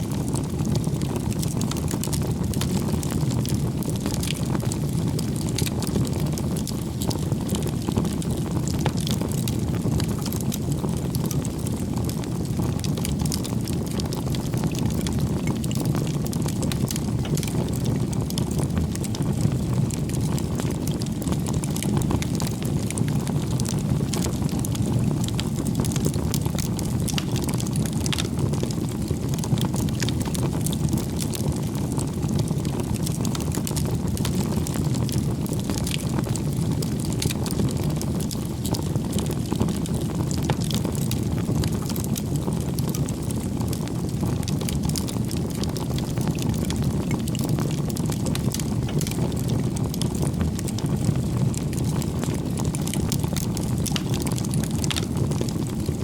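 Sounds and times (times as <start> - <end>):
firewood crackling and popping: 0.1 - 56.0
roar of flames: 0.1 - 56.0.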